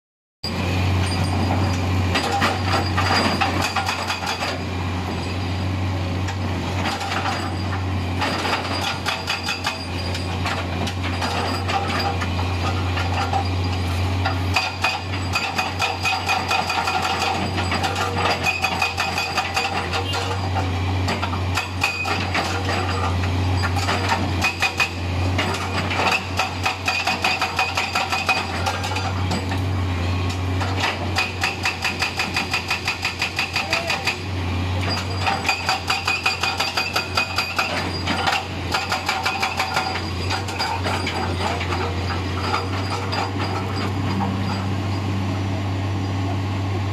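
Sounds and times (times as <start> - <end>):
diesel engine drone: 0.4 - 46.9
hydraulic breaker hammering rock: 1.0 - 4.7, 6.2 - 29.6, 30.3 - 44.8.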